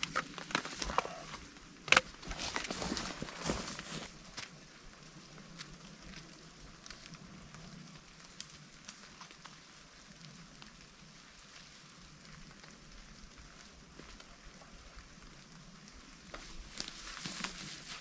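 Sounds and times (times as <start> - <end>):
rope crackling and ticking: 0.0 - 18.0.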